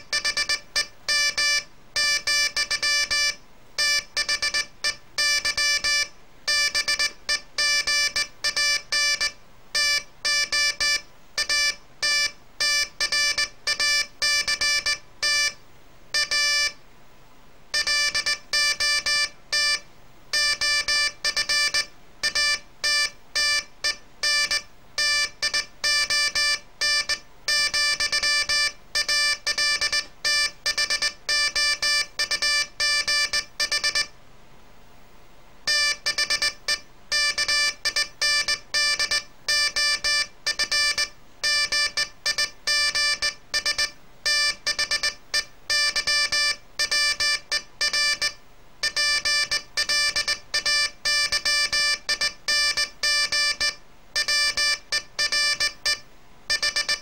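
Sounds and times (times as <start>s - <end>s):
morse code beeps: 0.1s - 15.6s, 16.2s - 16.8s, 17.8s - 19.8s, 20.4s - 34.1s, 35.7s - 57.0s.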